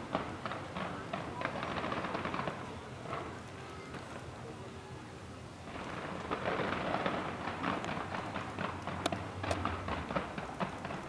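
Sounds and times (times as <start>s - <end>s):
distant fireworks crackling and popping: 0.0s - 11.0s.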